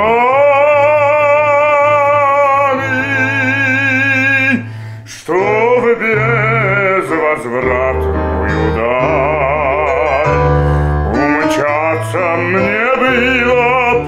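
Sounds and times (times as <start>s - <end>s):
instrumental accompaniment: 0.0s - 14.0s
man singing with vibrato: 0.0s - 14.0s.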